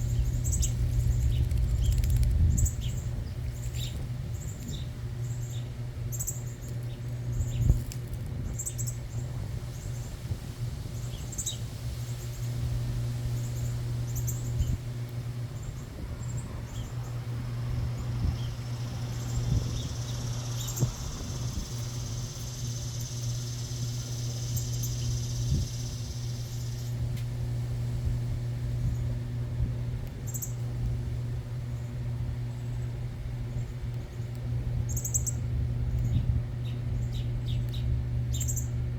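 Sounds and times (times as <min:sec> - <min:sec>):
birds chirping: 0:00.0 - 0:07.8, 0:08.4 - 0:10.2, 0:10.9 - 0:27.1, 0:31.6 - 0:38.8
steady low hum: 0:00.0 - 0:38.9.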